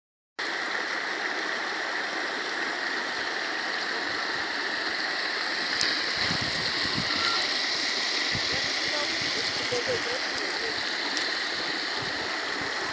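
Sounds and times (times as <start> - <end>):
water pouring down spillway: 0.4 - 12.9
water splashing into pond: 0.4 - 12.9.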